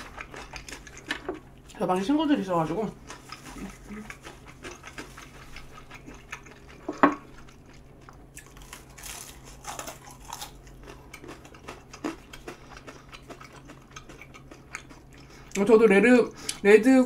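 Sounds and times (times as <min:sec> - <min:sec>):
crunchy chewing: 0:00.0 - 0:01.8, 0:02.4 - 0:15.7.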